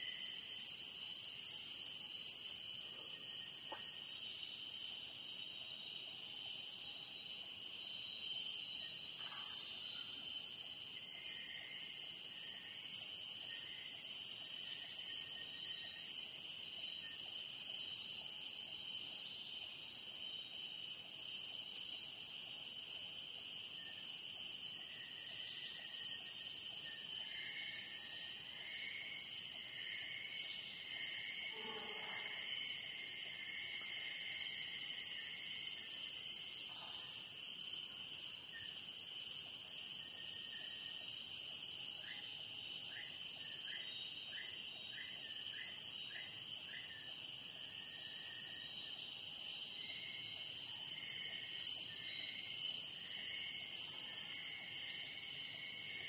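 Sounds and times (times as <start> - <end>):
insects and cicadas droning: 0.0 - 56.0.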